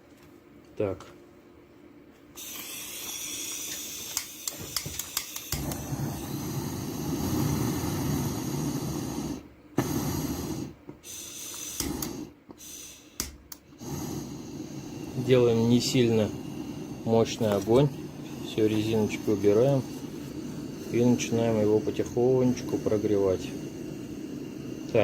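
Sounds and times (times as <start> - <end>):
gas hissing: 2.4 - 25.0
torch flame burning: 2.4 - 25.0.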